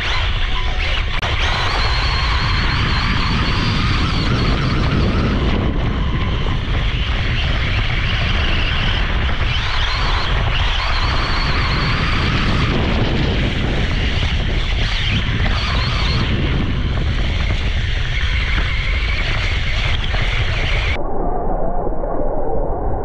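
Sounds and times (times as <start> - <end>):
electric motor whine: 0.0 - 21.0
wind buffeting microphone: 0.0 - 21.1.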